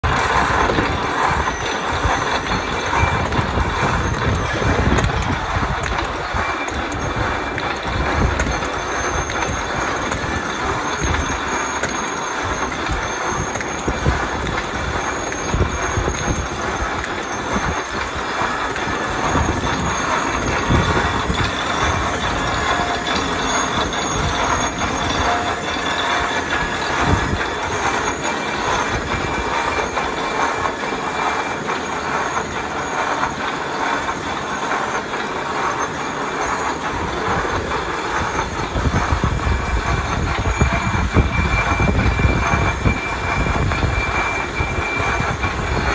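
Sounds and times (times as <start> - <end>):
perforating machine clattering: 0.0 - 45.9
rapid irregular clicking: 0.0 - 45.9.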